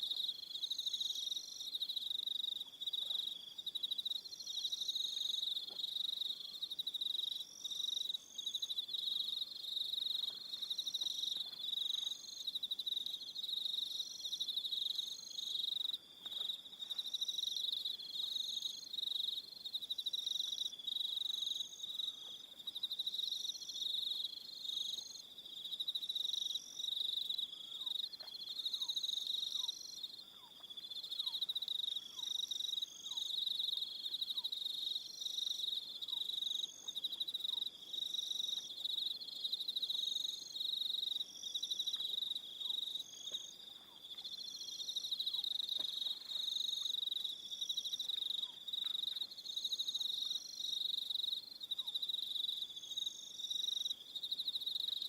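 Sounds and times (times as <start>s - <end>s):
crickets trilling: 0.1s - 55.0s.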